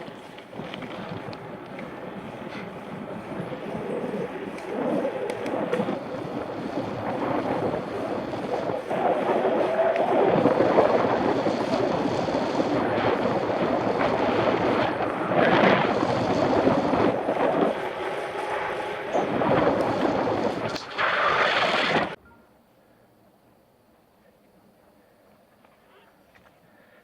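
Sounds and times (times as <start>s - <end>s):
road traffic passing: 0.0s - 22.2s
wind rushing over microphone: 0.0s - 22.2s.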